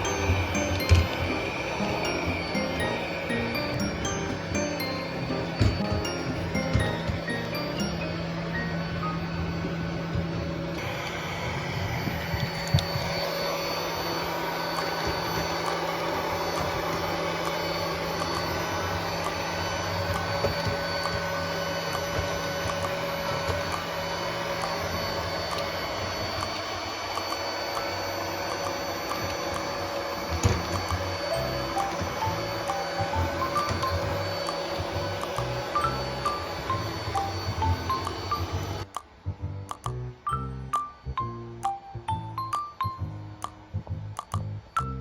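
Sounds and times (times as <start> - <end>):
robot vacuum whirring: 0.0 - 39.0.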